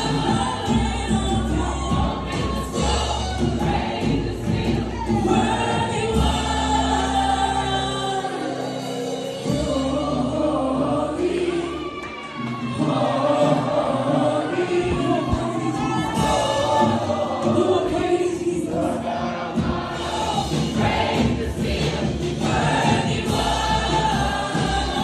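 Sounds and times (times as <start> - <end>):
congregation singing: 0.0 - 25.0.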